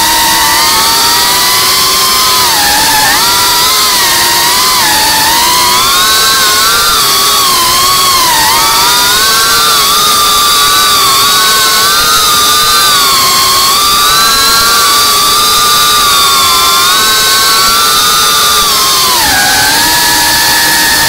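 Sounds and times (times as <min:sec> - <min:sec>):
drone motors buzzing: 0:00.0 - 0:21.0.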